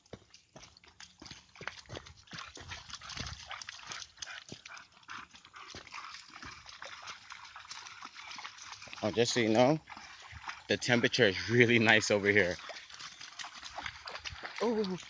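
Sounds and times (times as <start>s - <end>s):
paws crunching leaves and twigs: 0.0s - 11.5s, 12.2s - 14.7s
dog panting: 1.9s - 14.3s.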